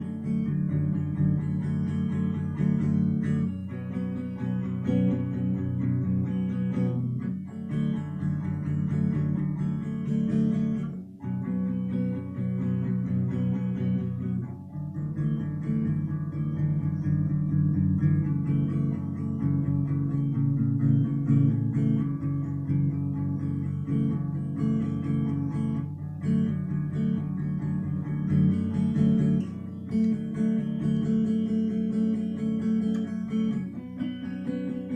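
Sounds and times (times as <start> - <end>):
guitar chords: 0.0 - 34.9.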